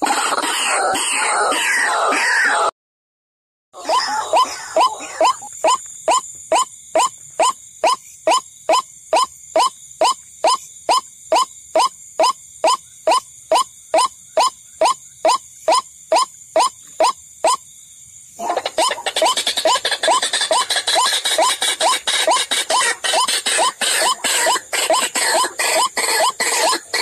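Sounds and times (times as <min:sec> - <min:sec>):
waterhen calls: 0:03.8 - 0:17.6, 0:18.4 - 0:27.0.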